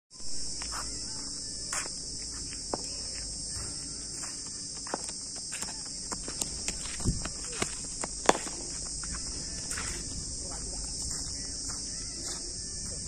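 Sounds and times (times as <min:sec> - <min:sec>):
insects buzzing: 0:00.1 - 0:13.0.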